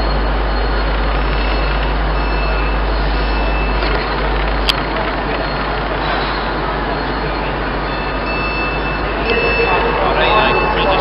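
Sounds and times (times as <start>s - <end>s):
station platform rumble and hiss: 0.0s - 11.0s.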